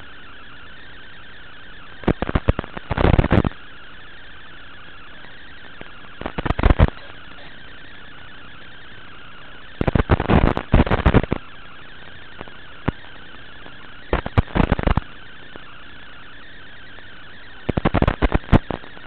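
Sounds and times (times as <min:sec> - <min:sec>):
harsh crackling static: 0:00.0 - 0:19.0
static hiss: 0:00.0 - 0:19.0.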